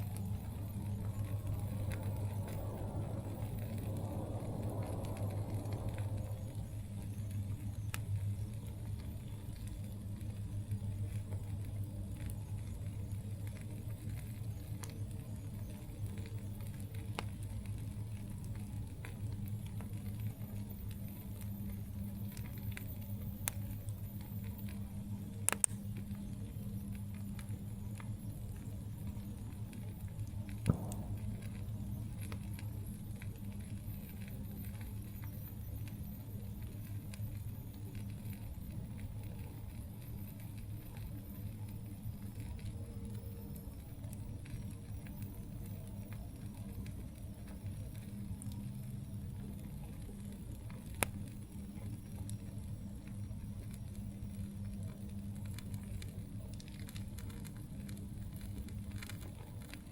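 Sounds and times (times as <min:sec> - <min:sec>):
campfire pops and snaps: 0:00.0 - 0:59.9
steady low hum: 0:00.0 - 0:59.9.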